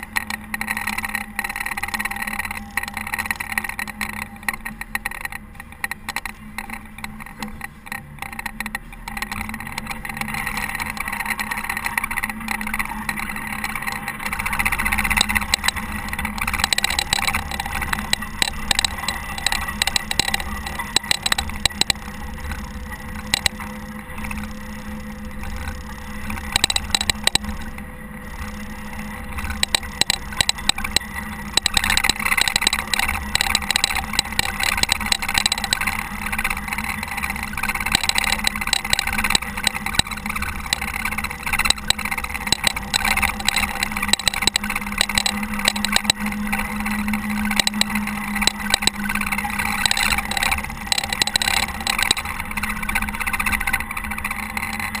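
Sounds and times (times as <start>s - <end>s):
diesel engine running: 0.0s - 55.0s
sharp clicks and rattles: 0.0s - 55.0s.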